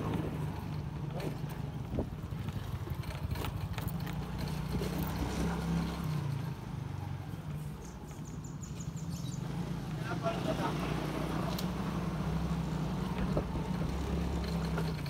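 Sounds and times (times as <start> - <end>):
small motorcycle engine running: 0.0 - 7.2, 9.5 - 15.0.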